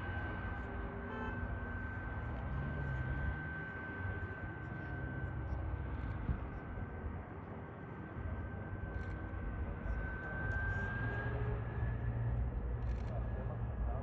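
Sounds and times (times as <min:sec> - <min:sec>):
jet engines whining at low thrust: 0:00.0 - 0:14.0.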